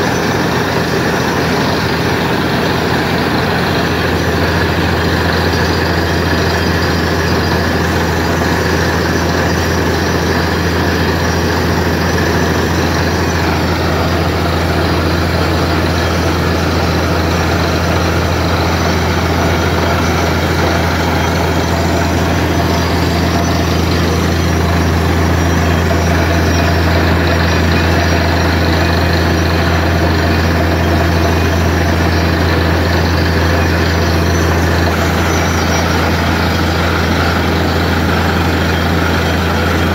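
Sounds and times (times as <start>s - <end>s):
drilling rig with air compressor: 0.0s - 39.9s.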